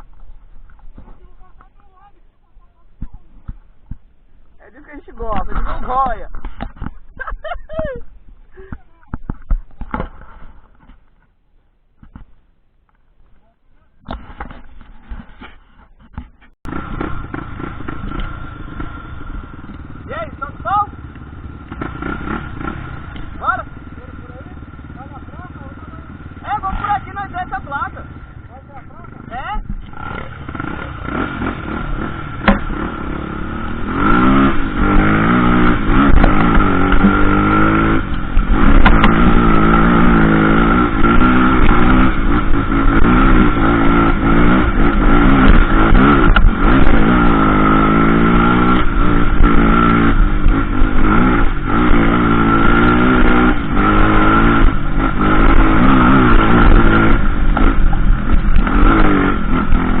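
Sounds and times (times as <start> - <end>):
motorcycle engine revving: 0.0 - 8.0, 16.1 - 60.0.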